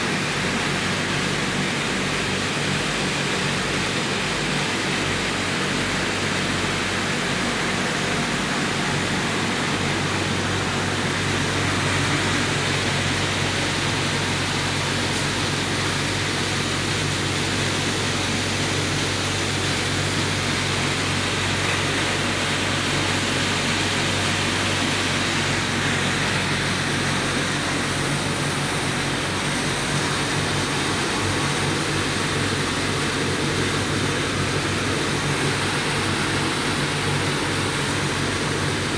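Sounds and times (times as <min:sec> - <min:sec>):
machinery low hum: 0:00.0 - 0:38.9.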